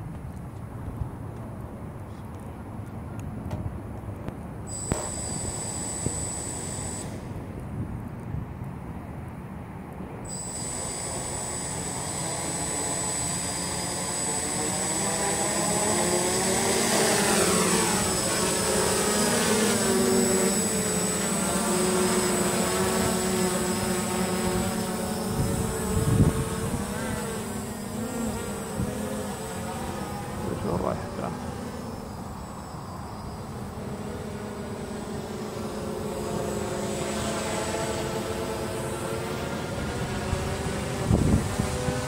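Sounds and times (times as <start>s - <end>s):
drone motors and propellers buzzing: 2.1s - 8.6s, 10.0s - 42.0s.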